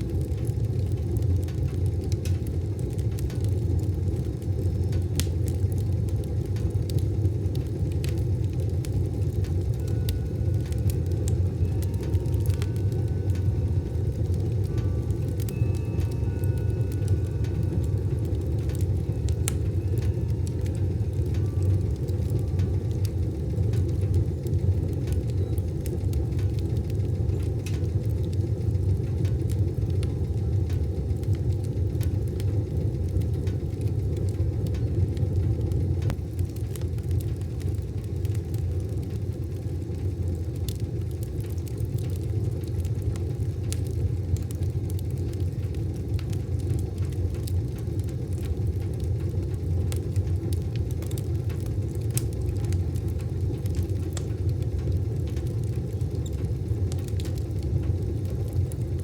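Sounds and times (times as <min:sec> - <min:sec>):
low rumble of flames: 0:00.0 - 0:59.0
wood fire crackles and pops: 0:00.0 - 0:59.0.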